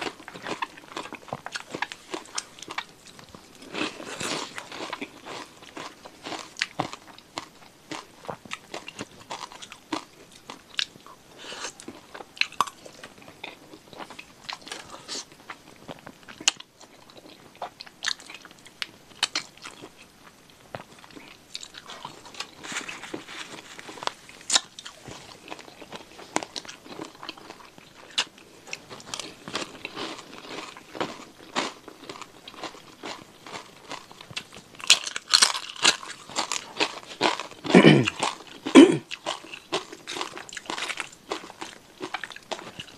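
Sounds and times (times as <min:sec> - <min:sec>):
chewing crunches: 0:00.0 - 0:42.9.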